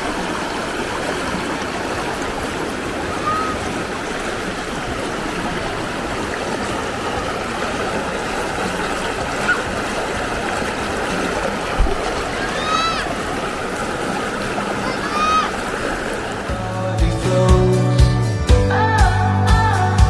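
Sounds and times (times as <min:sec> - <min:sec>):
river water over rocks: 0:00.0 - 0:17.4.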